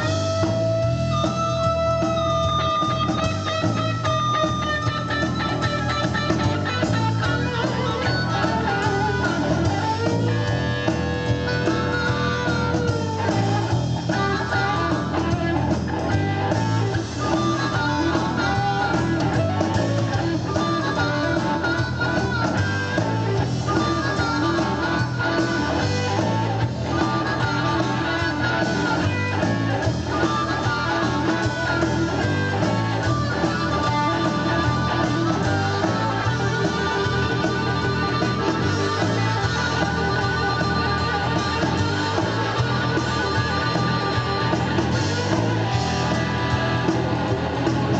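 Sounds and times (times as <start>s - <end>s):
blues-rock band playing: 0.0s - 47.9s
lead guitar: 0.0s - 47.9s.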